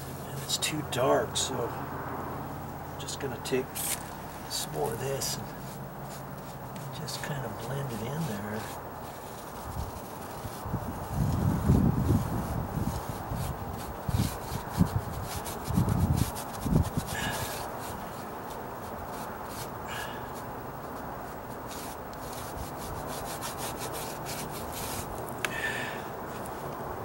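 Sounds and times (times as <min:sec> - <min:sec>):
paintbrush scrubbing rough stucco: 0:03.0 - 0:25.5.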